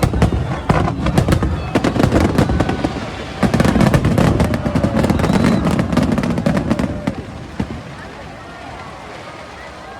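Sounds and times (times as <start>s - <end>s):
fireworks crackling and banging: 0.0s - 9.6s.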